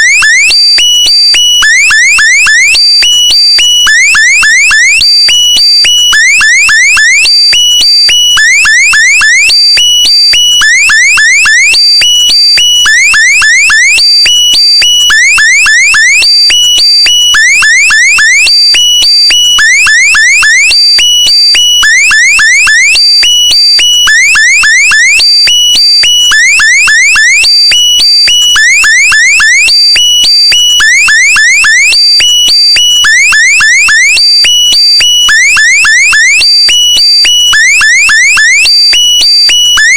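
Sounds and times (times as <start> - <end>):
electronic alarm chirps: 0.0 - 39.9.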